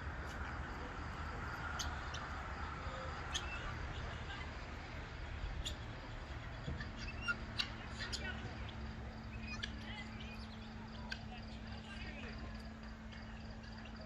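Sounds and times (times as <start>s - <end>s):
birds chirping: 0.0s - 14.0s
low background rumble: 0.0s - 14.0s.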